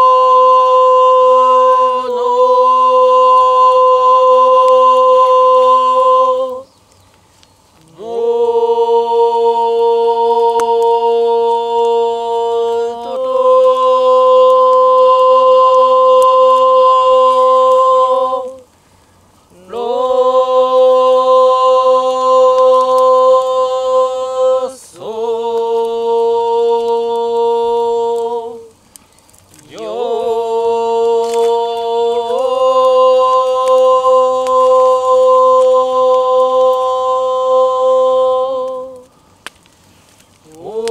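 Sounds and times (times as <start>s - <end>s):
person chanting held notes: 0.0s - 6.8s, 7.8s - 18.8s, 19.4s - 39.2s, 40.4s - 40.9s.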